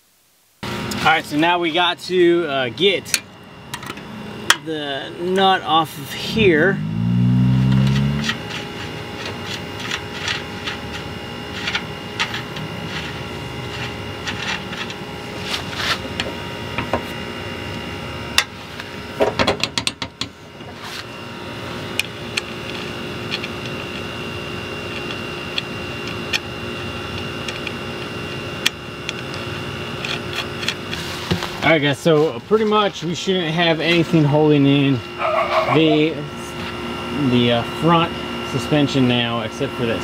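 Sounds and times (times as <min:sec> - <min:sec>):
steady background hum: 0:00.5 - 0:40.0.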